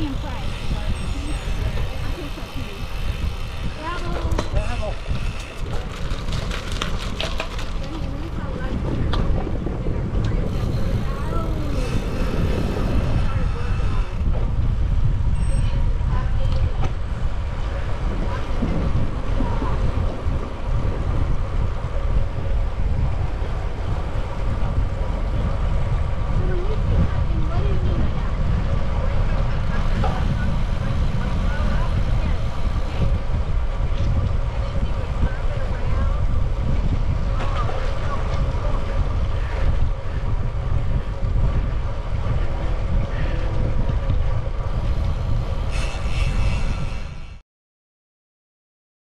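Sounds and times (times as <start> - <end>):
bike tyres rolling on concrete: 0.0 - 15.3, 16.0 - 46.4
wind buffeting microphone: 0.0 - 47.4.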